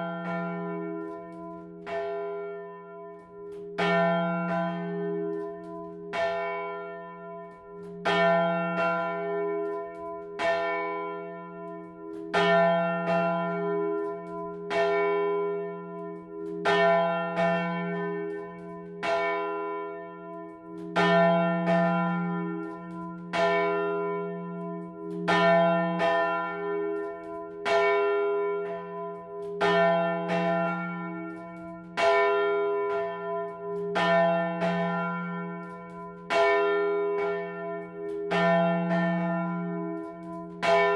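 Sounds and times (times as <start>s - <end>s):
large church bell ringing: 0.0s - 40.9s.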